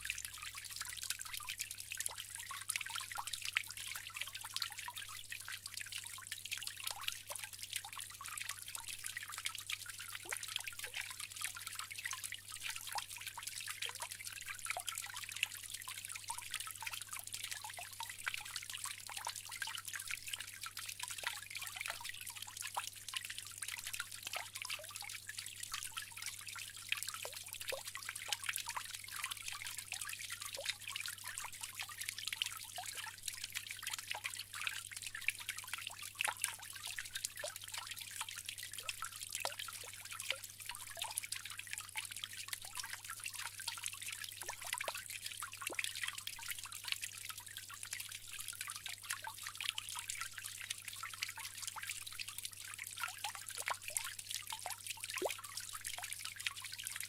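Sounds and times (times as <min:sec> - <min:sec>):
water trickling and splashing: 0:00.0 - 0:57.0.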